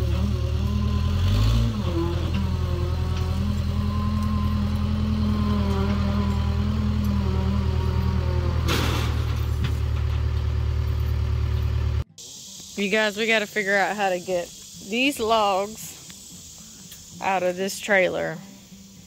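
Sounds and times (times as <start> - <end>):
diesel engine running: 0.0 - 16.6.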